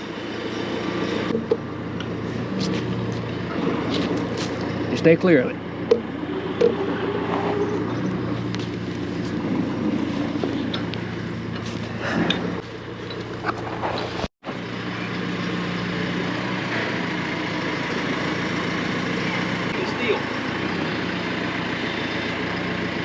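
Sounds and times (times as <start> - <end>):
engine running at low speed: 0.0 - 23.0.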